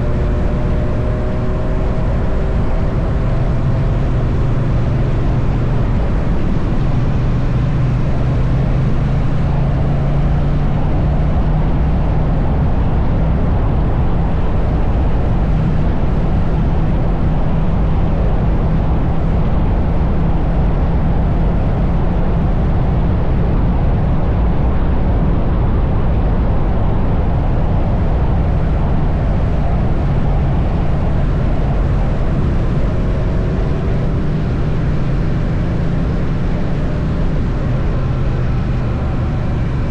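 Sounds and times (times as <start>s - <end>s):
road noise: 0.0s - 39.9s
rushing wind: 0.0s - 39.9s.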